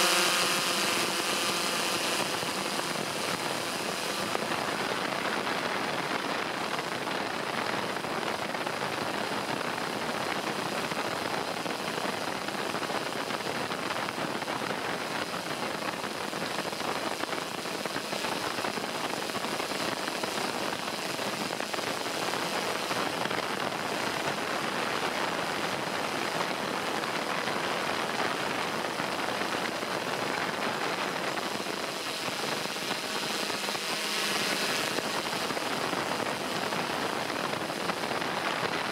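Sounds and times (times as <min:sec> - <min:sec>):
faint high whine: 0:00.0 - 0:38.9.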